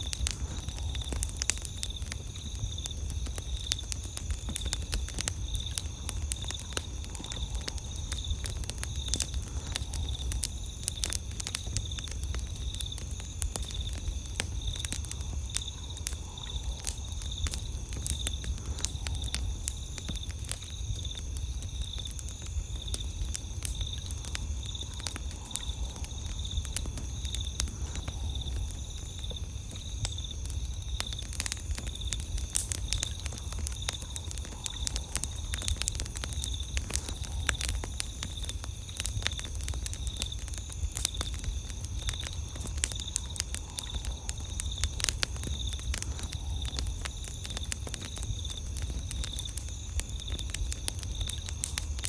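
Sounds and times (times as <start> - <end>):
campfire crackling and popping: 0.0 - 52.0
night insects chirping: 0.0 - 52.0.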